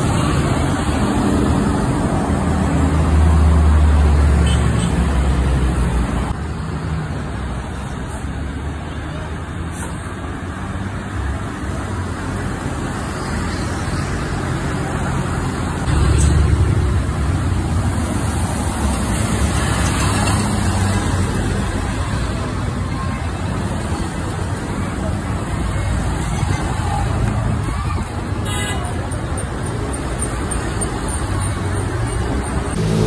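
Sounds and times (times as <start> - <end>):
buses and traffic driving past: 0.0 - 33.0.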